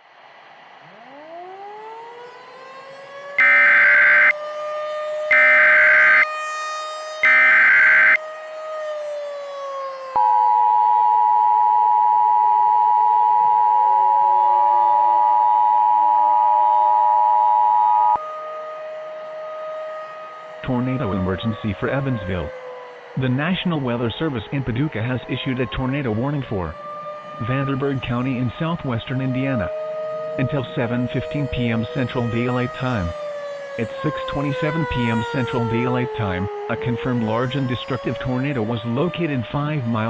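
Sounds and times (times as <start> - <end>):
warning siren wailing: 0.0 - 40.0.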